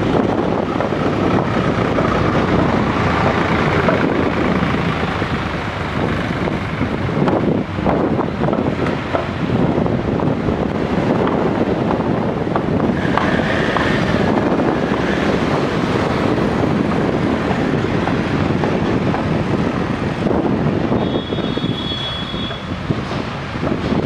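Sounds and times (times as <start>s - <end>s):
tractors and traffic rumbling: 0.0s - 24.0s
wind noise on microphone: 0.0s - 24.0s.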